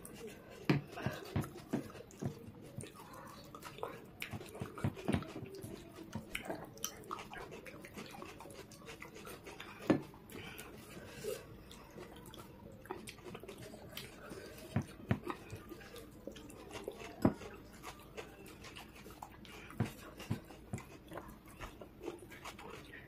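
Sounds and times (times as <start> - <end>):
people chewing: 0.0 - 23.0.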